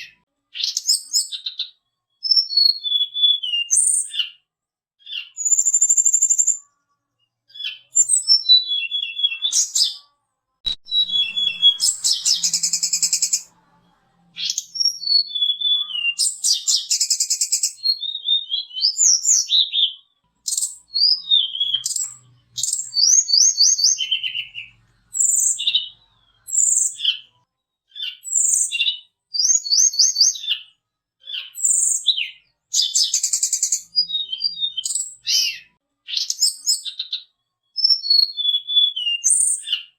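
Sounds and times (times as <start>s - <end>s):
songbird singing: 5.0s - 10.0s, 10.7s - 39.9s.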